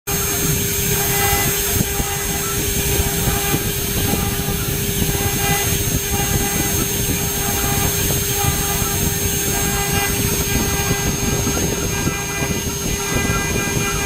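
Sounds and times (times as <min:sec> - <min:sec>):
cutter chattering in metal: 0:00.1 - 0:14.0
spindle hum and whine: 0:00.1 - 0:14.0.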